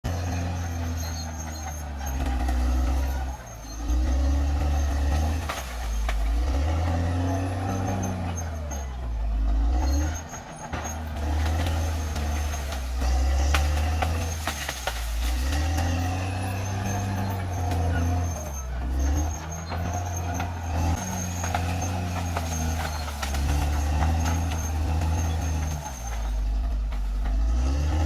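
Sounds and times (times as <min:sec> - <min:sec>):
bulldozer diesel engine working: 0:00.0 - 0:28.0.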